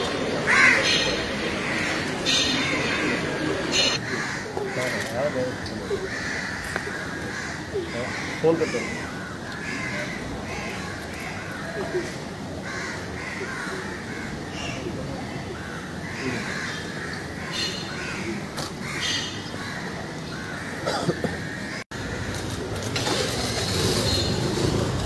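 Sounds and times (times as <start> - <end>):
birds calling: 0.0 - 22.7
steady background noise: 0.0 - 25.0.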